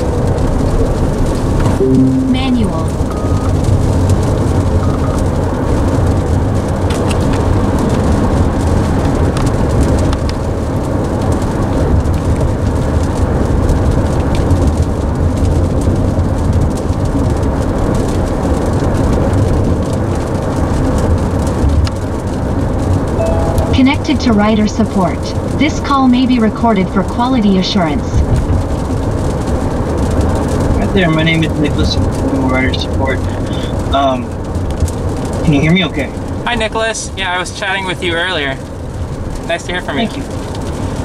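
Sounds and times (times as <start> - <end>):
rain on car roof: 0.0 - 41.0.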